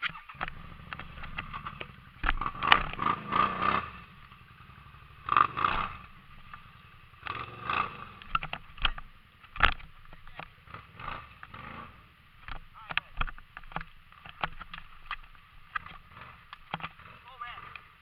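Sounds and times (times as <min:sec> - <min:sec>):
loud clatter and scraping: 0:00.0 - 0:17.8
atv engine running: 0:00.0 - 0:18.0.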